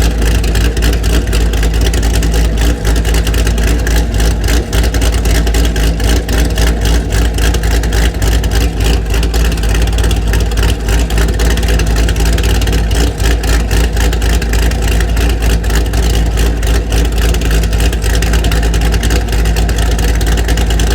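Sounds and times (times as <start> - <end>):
deep engine exhaust rumble: 0.0 - 20.9.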